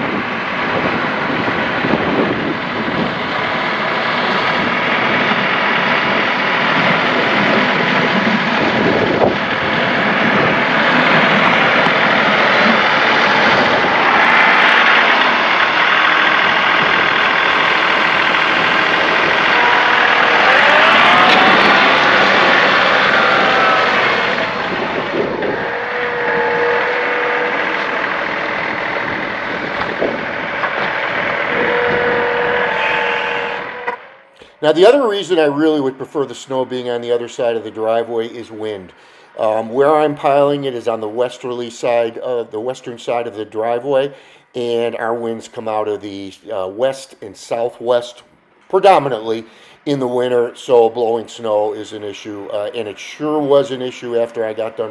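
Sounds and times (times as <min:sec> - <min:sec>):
tractor diesel engine running: 0:00.0 - 0:46.7, 0:47.5 - 0:54.9
steady whine: 0:00.0 - 0:54.9.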